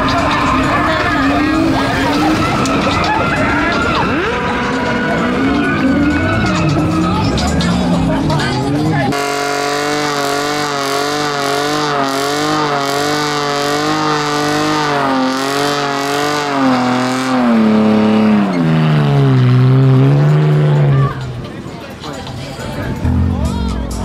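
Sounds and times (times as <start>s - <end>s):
car engine at high revs: 0.0s - 22.2s
spinning tyres hissing: 0.0s - 22.5s.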